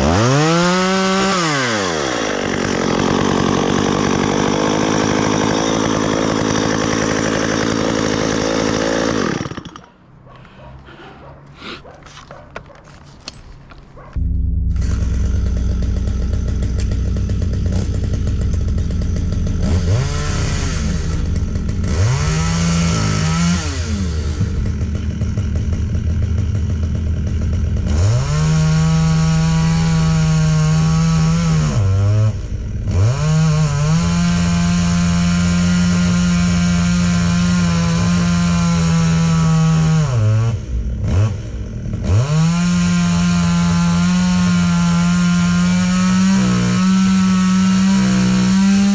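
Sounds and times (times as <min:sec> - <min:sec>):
chainsaw idling and revving: 0:00.0 - 0:10.1, 0:14.2 - 0:48.9.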